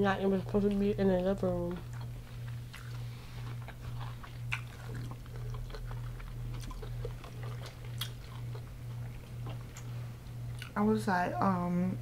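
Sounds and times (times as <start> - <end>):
low pulsing hum: 0.0 - 12.0
chewing crunchy fried food: 0.3 - 10.8.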